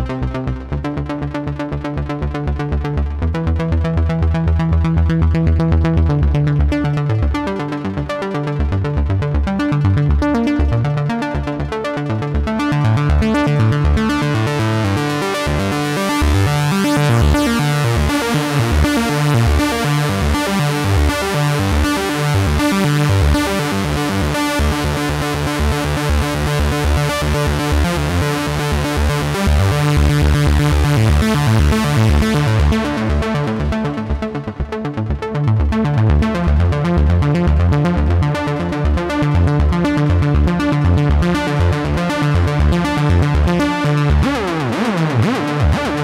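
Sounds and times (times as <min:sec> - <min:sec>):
synthesizer arpeggio of low notes: 0:00.0 - 0:46.0.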